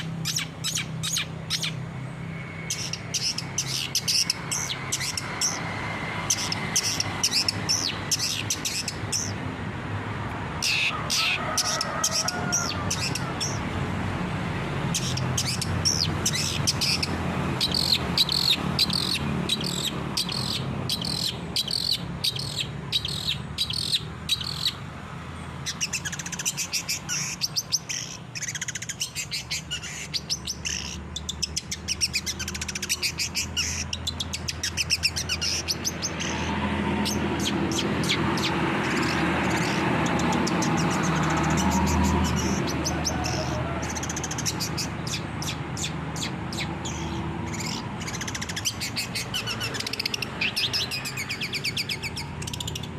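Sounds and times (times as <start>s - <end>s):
bird singing chattering song: 0.0s - 9.4s, 10.6s - 13.7s, 14.8s - 52.9s.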